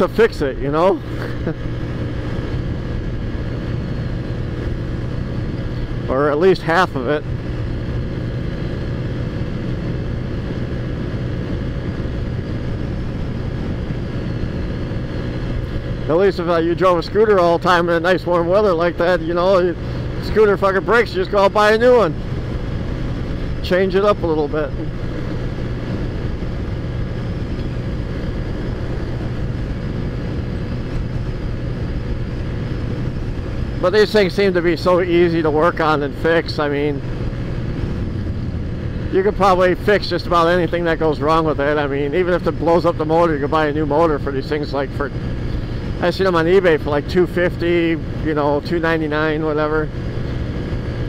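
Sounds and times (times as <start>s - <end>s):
road and wind noise: 0.0s - 51.0s
scooter engine humming: 0.0s - 51.0s.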